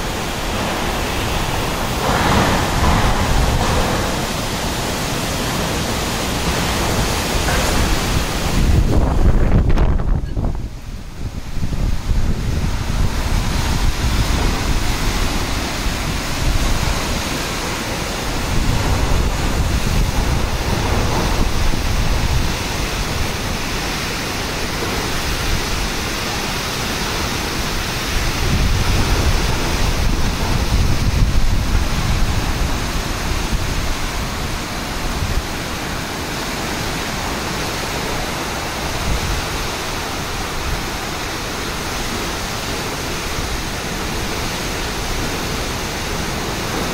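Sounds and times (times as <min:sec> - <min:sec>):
heavy rain: 0:00.0 - 0:46.9
wind gusts: 0:00.0 - 0:46.9.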